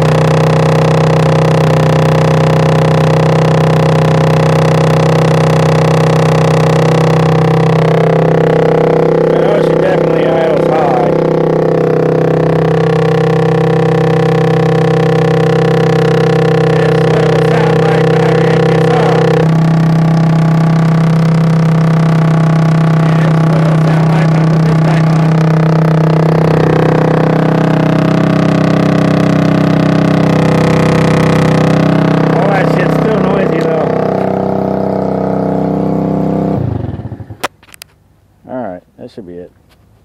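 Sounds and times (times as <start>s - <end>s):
moped engine running: 0.0s - 38.3s.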